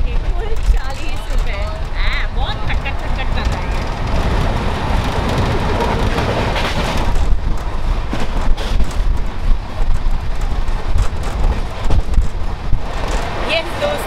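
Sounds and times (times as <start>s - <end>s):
train coach rumble: 0.0s - 14.0s
wheels clattering on track: 0.0s - 14.0s
wind buffeting microphone: 0.0s - 14.0s.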